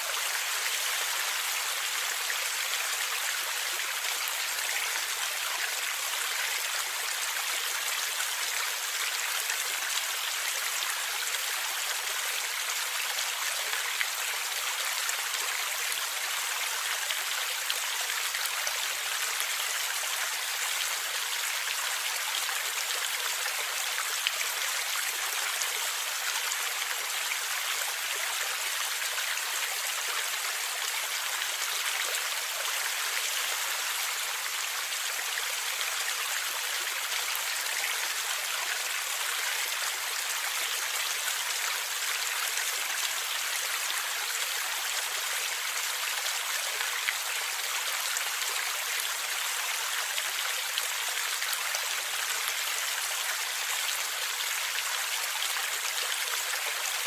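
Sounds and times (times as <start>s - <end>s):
stream flowing and gurgling: 0.0s - 57.0s.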